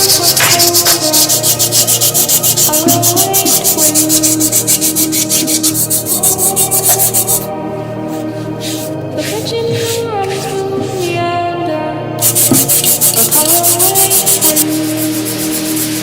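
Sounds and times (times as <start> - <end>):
sanding strokes on metal: 0.0 - 7.5, 8.6 - 11.0, 12.2 - 16.0.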